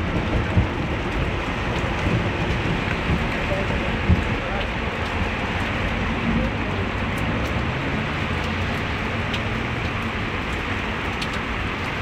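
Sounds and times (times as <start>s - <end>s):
car engine low hum: 0.0s - 12.0s
heavy rain: 0.0s - 12.0s.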